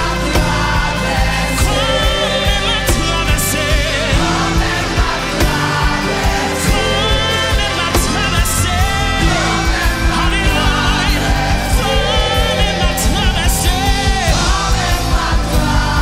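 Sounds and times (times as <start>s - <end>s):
band with steady beat: 0.0s - 16.0s
group singing gospel song: 0.0s - 16.0s
low bass notes: 0.0s - 16.0s.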